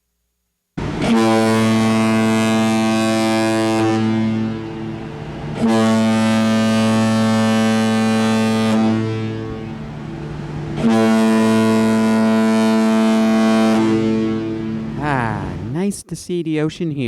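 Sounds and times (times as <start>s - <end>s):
deep ship's horn blasts: 0.8s - 15.7s.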